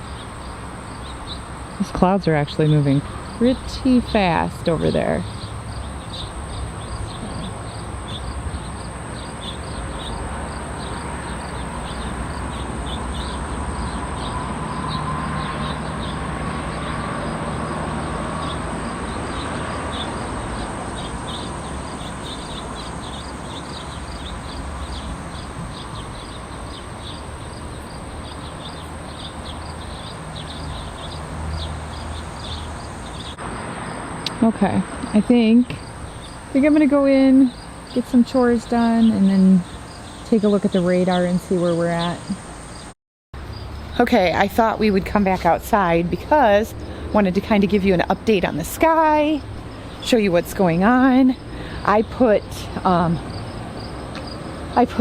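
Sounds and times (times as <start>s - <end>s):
high insect drone: 0.0s - 44.7s, 45.8s - 55.0s
crickets chirping: 0.0s - 55.0s.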